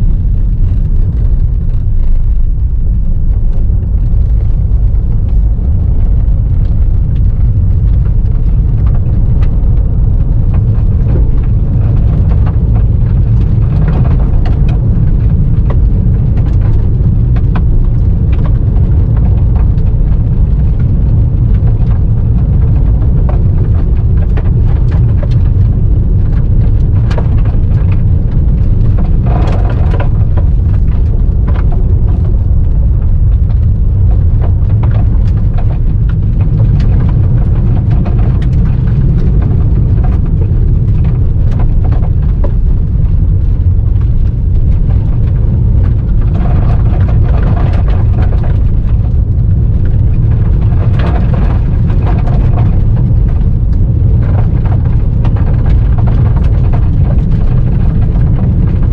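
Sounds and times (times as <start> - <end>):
tyres rumbling on gravel road: 0.0 - 58.9
stones ticking against car: 2.8 - 58.8.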